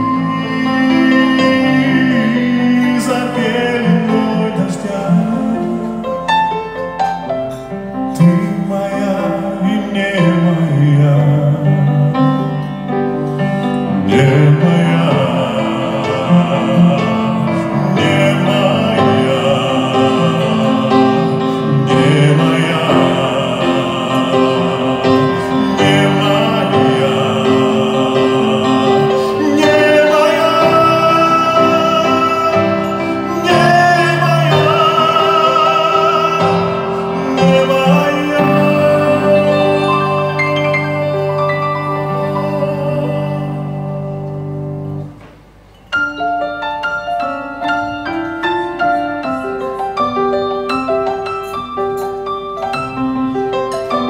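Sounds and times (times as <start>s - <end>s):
man singing into microphone: 0.0s - 45.0s
grand piano: 0.0s - 54.0s.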